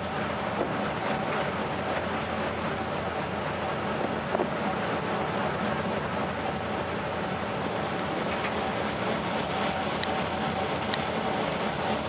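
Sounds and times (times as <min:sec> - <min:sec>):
low engine hum: 0:00.0 - 0:12.0
rush of wind and water: 0:00.0 - 0:12.0.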